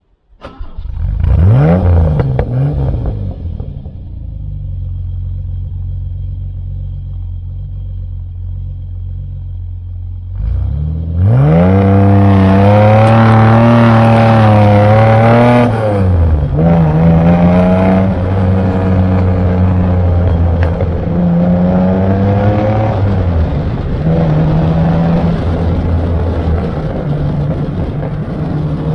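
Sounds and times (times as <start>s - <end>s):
car engine revving and idling: 0.4s - 28.9s.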